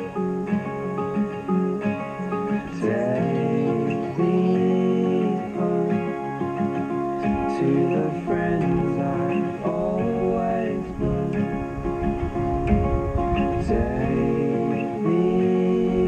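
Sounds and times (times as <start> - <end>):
person singing: 0.0 - 11.6, 13.2 - 16.0
strummed acoustic guitar: 0.0 - 16.0.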